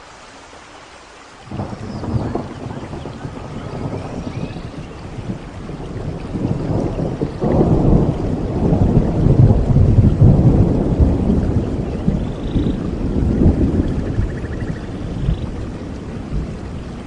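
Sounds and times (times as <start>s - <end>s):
steady rain: 0.0s - 17.0s
thunder rumbling: 1.5s - 17.0s.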